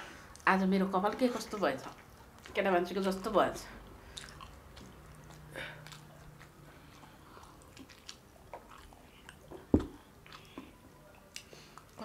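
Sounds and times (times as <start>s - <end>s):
people chewing food: 1.3s - 2.8s, 3.7s - 12.0s.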